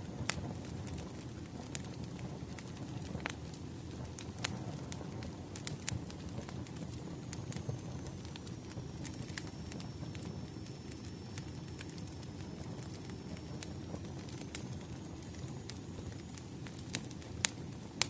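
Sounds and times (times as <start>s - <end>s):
low rumble of burning logs: 0.0s - 18.0s
wood fire crackling and popping: 0.0s - 18.0s.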